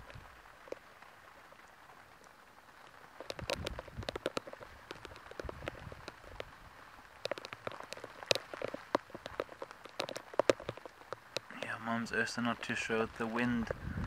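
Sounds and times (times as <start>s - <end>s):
rain drops tapping: 0.0s - 14.0s.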